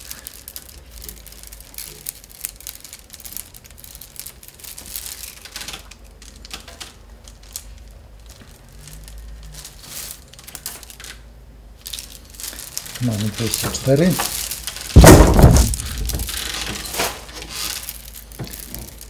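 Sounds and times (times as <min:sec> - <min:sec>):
wooden rods rustling and clicking: 0:00.0 - 0:19.0.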